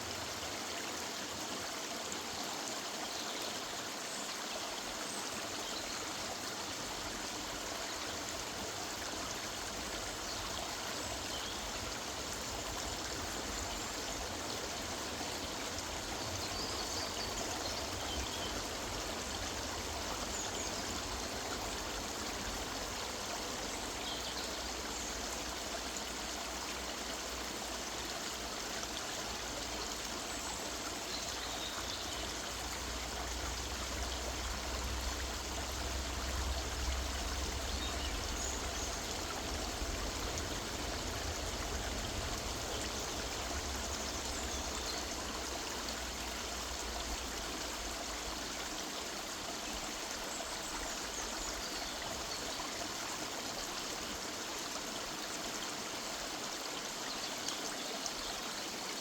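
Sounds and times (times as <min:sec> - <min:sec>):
river running over stones: 0:00.0 - 0:59.0.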